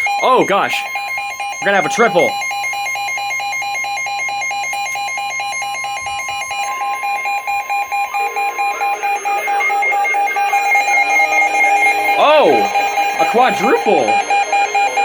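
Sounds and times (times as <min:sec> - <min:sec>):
choppy overlapping alarm tones: 0:00.0 - 0:15.0
fast beeping: 0:00.0 - 0:15.0
weather radio alert tones: 0:00.0 - 0:15.0.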